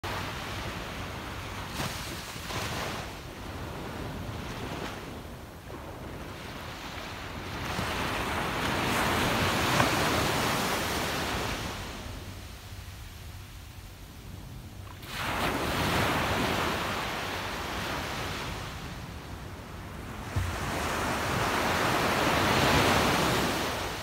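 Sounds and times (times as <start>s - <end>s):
waves washing up a beach: 0.0s - 24.0s.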